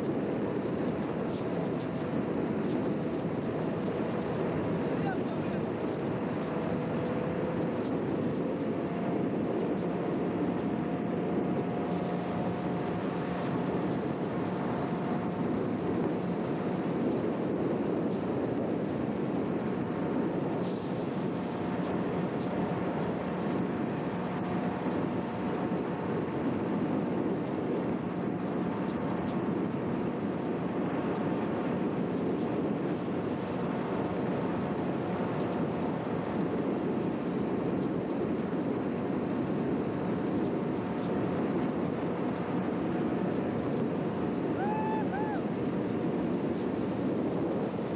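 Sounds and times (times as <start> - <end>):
boat engine drone: 0.0 - 47.9
wind noise on microphone: 0.0 - 47.9.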